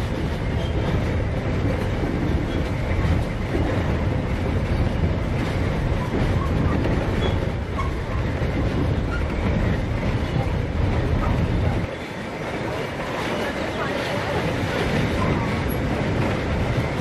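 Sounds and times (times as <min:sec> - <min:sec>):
train rumbling along track: 0:00.0 - 0:17.0.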